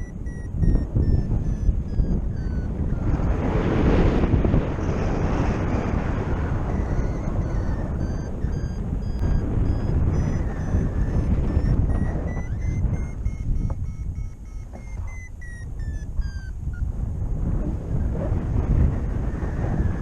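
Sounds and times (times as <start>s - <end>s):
variometer beeps: 0.0s - 16.9s
wind rushing over microphone: 0.0s - 20.0s.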